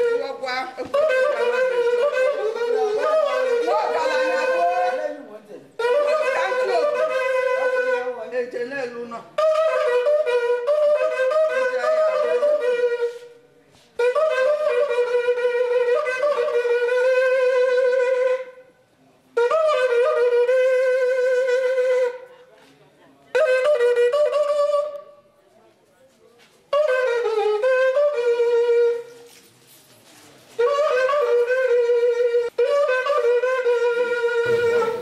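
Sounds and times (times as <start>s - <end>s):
wind instrument with wavering tone: 0.0s - 22.3s, 23.3s - 25.2s, 26.7s - 29.4s, 30.5s - 35.0s.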